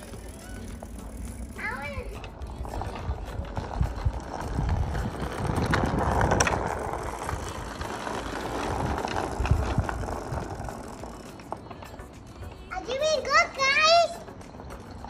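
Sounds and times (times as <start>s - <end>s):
small bicycle rolling over tarmac: 0.0s - 15.0s.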